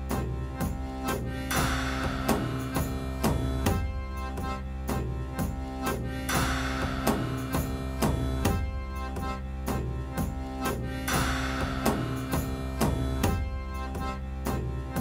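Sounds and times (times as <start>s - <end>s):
instrumental music with drum beat: 0.0s - 15.0s.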